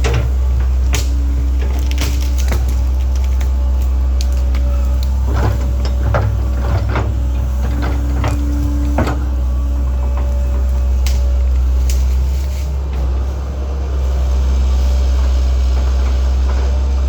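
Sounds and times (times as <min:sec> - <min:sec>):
excavator engine hum: 0:00.0 - 0:17.0.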